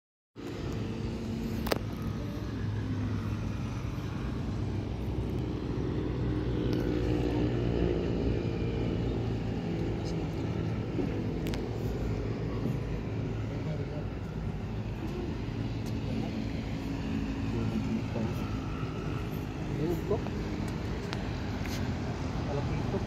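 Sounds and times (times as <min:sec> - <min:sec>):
engine running: 0:00.4 - 0:23.0.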